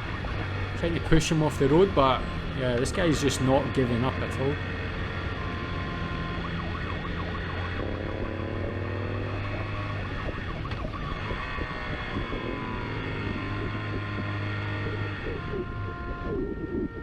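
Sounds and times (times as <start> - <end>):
engine drone: 0.0 - 17.0
police siren wailing: 0.0 - 17.0.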